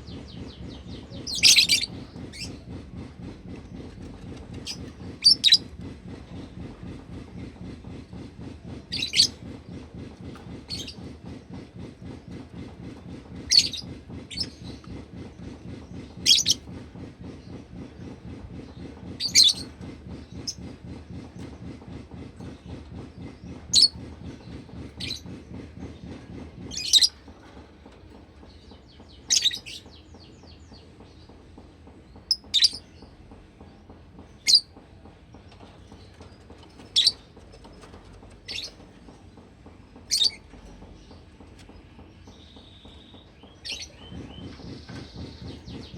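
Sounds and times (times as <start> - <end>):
low steady rumble: 0.0 - 45.9.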